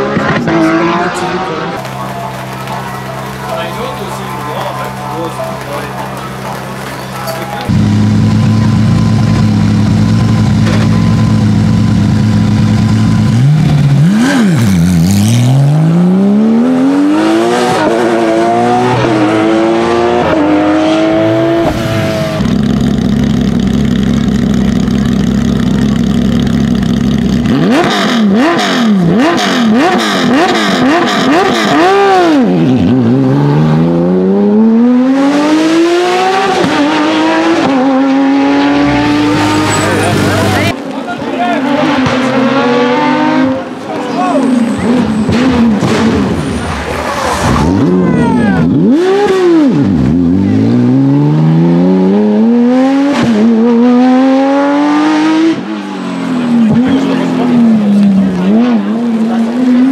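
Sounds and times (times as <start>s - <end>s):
car accelerating through gears: 0.0s - 1.9s, 7.6s - 25.2s, 26.8s - 40.8s, 41.6s - 46.4s, 47.1s - 59.9s
car engine idling and revving: 0.0s - 59.9s.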